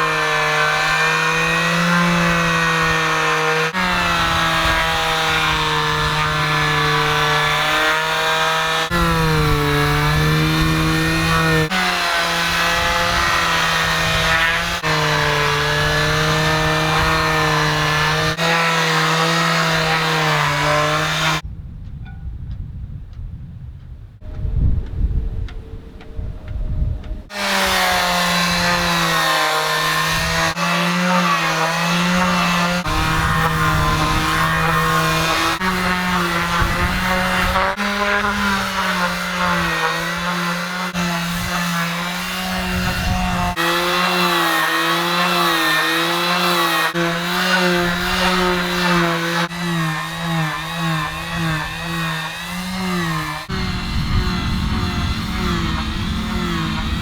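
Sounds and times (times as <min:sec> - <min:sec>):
electric sander on boat hull: 0:00.0 - 0:21.4, 0:27.3 - 0:57.0.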